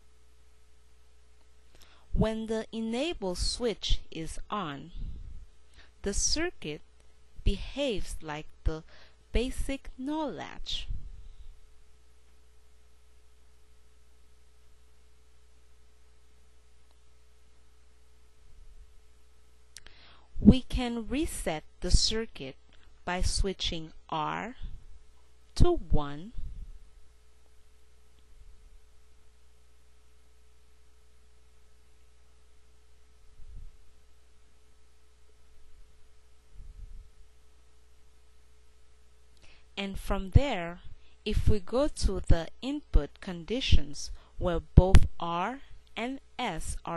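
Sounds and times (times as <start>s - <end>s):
faint electrical hum: 0.0s - 46.9s.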